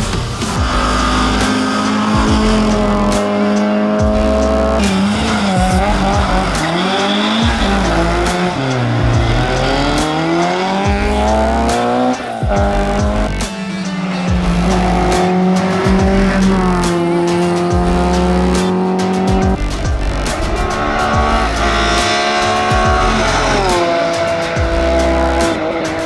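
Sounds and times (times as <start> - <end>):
background music with steady beat: 0.0 - 26.0
race car engines revving: 0.0 - 26.0.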